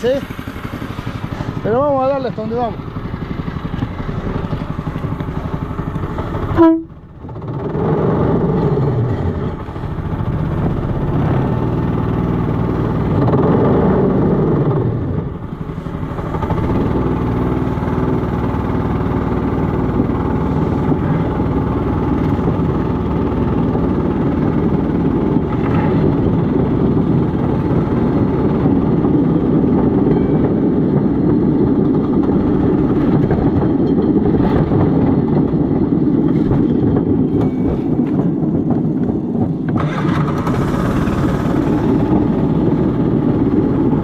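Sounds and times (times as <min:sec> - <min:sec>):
small petrol engine running: 0:00.0 - 0:44.0.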